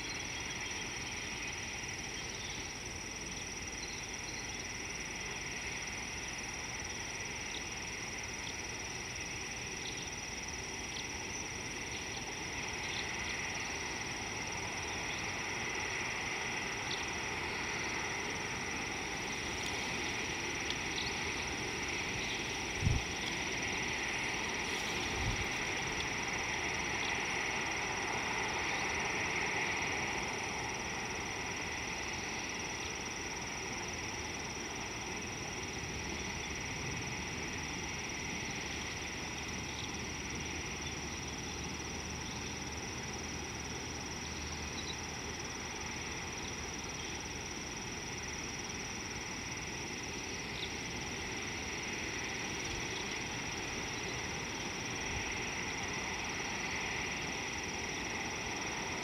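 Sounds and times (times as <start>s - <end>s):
constant high drone: 0.0s - 59.0s
outdoor background hiss: 0.0s - 59.0s.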